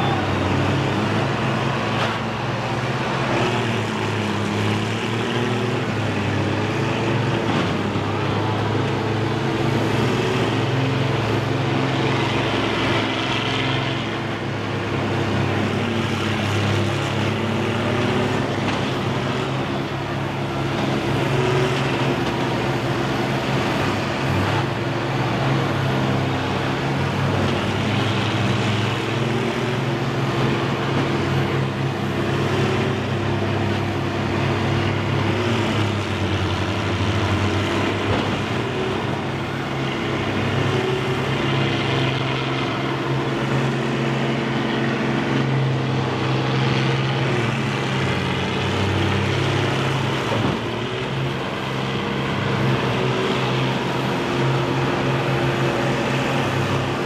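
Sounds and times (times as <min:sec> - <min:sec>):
combine harvester engines droning: 0:00.0 - 0:57.0.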